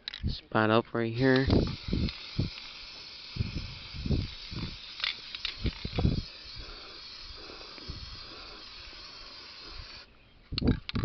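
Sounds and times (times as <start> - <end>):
spray paint can hissing: 1.2 - 10.1.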